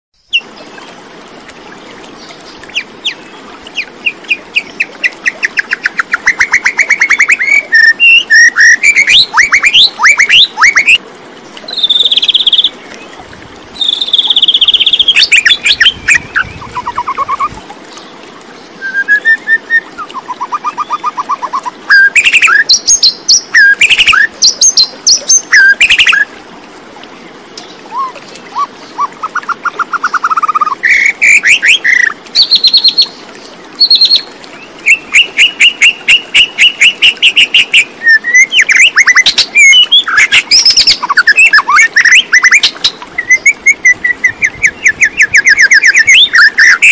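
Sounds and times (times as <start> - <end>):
songbird singing trills: 2.2 - 11.0, 11.7 - 13.2, 13.8 - 18.1, 18.8 - 26.3, 27.6 - 33.2, 33.8 - 46.9.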